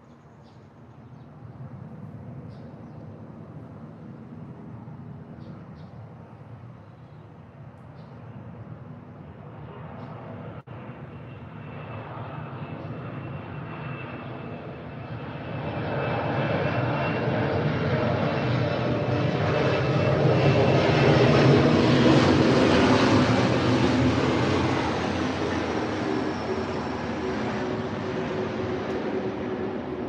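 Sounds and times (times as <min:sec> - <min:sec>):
aircraft flying over: 0:00.0 - 0:30.0.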